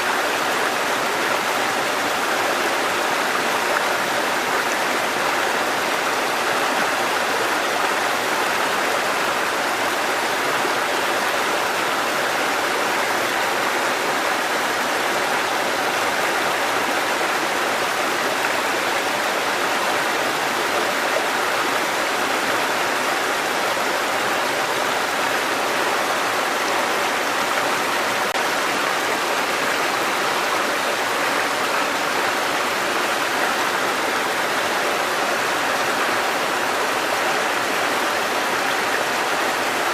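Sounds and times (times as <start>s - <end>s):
stream water cascading over rocks: 0.0s - 39.9s.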